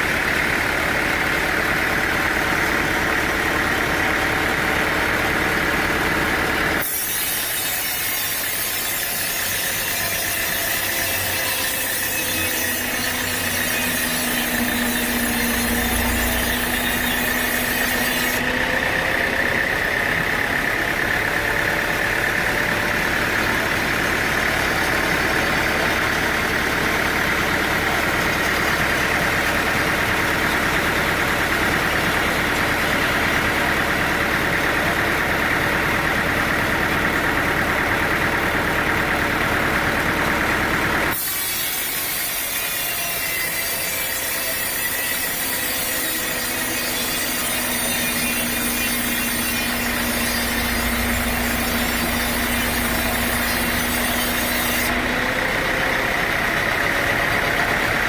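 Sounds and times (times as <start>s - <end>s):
saw cutting wood: 0.0s - 58.0s
sawmill machinery drone: 0.0s - 58.0s.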